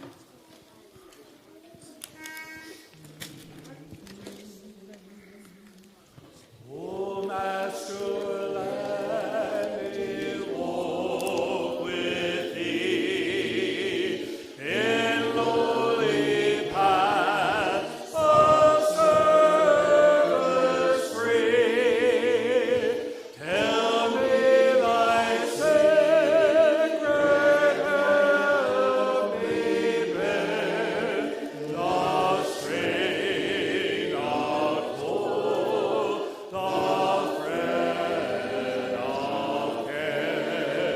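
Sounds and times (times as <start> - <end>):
voices singing a slow song: 2.8 - 40.9.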